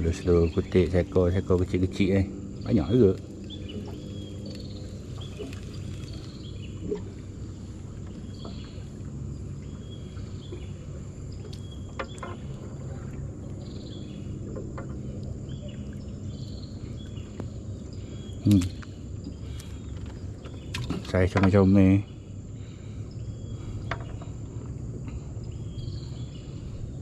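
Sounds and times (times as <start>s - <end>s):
birds chirping: 0.0s - 27.0s
high insect drone: 0.0s - 27.0s
low steady rumble: 0.0s - 27.0s.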